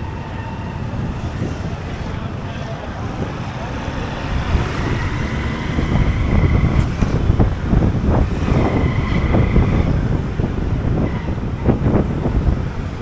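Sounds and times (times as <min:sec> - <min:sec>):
motorcycle engine rumble: 0:00.0 - 0:13.0
wind buffeting microphone: 0:00.0 - 0:13.0.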